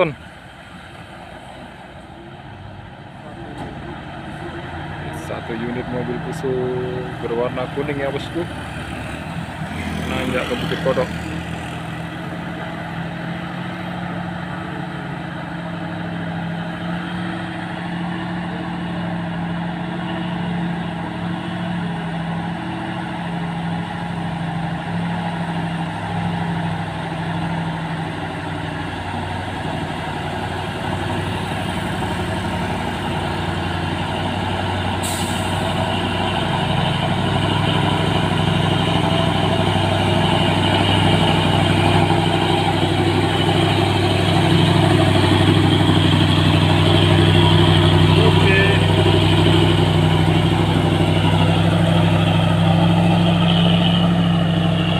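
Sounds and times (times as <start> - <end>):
truck diesel engine droning: 0.0 - 54.9.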